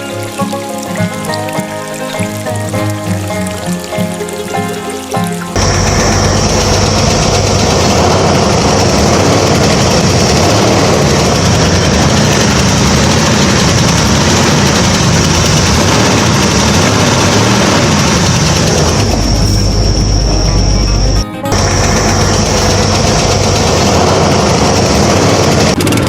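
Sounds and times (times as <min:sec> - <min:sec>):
engine idling: 0:00.0 - 0:26.0
high whine: 0:04.0 - 0:26.0.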